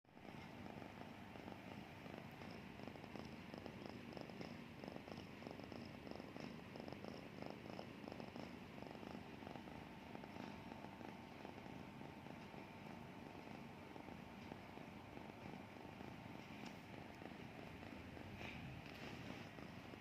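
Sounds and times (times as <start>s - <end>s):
cat purring: 0.1s - 20.0s.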